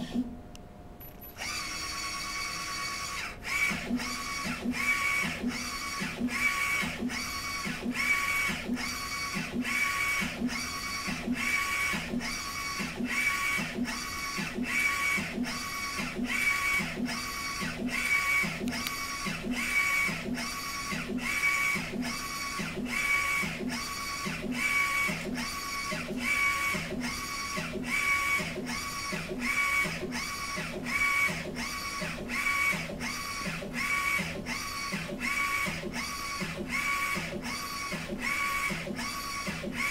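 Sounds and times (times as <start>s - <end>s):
printer carriage whirring and clacking: 2.4s - 39.9s.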